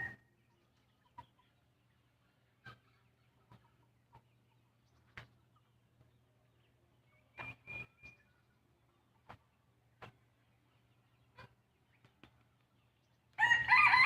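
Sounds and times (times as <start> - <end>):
chickens clucking: 0.0 - 13.7.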